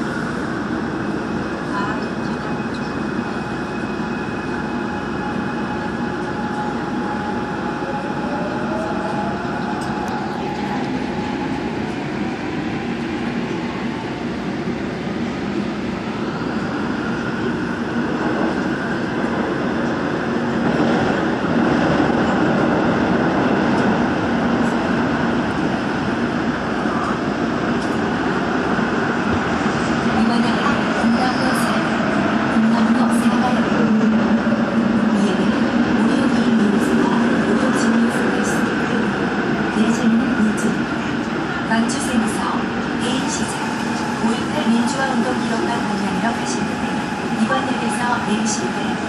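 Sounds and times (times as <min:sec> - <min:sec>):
train wheel and running noise: 0:00.0 - 0:49.0.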